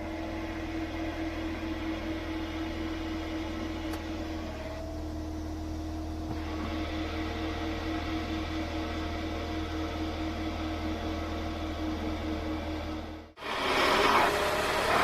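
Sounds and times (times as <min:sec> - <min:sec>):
clutch bearing whine: 0:00.0 - 0:15.0.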